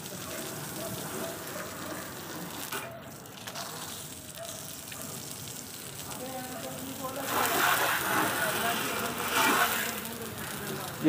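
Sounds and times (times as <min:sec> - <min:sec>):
hose water spraying and splashing: 0:00.0 - 0:11.0.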